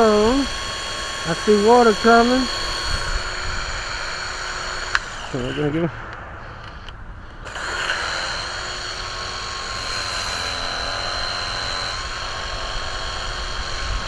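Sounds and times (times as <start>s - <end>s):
pressure washer motor whining: 0.0s - 14.0s.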